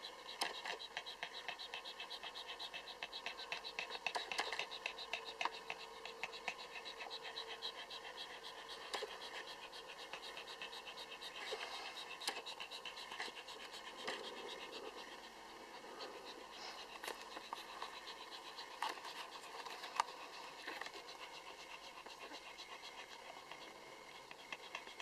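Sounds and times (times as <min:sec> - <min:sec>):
dog panting fast: 0:00.0 - 0:25.0.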